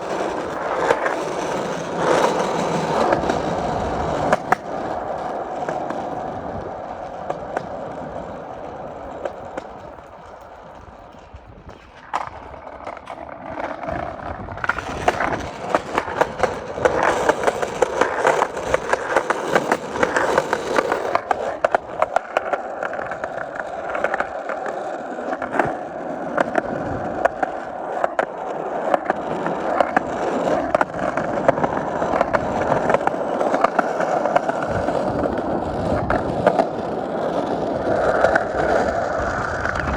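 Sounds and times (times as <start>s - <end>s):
skateboard wheels rolling: 0.0s - 39.9s.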